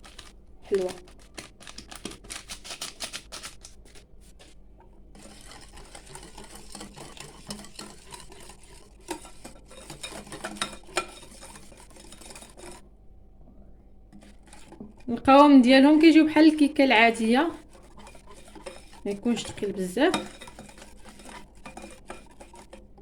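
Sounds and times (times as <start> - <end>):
utensil stirring batter in bowl: 0.0 - 13.0, 13.9 - 23.0.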